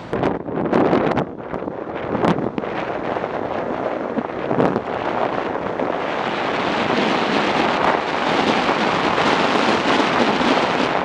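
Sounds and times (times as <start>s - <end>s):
wind roaring over microphone: 0.0s - 11.0s.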